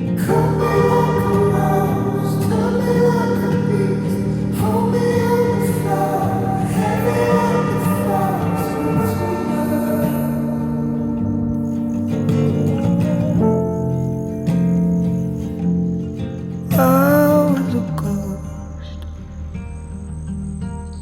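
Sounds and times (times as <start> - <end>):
song with sung vocals: 0.0 - 15.0, 16.7 - 19.5.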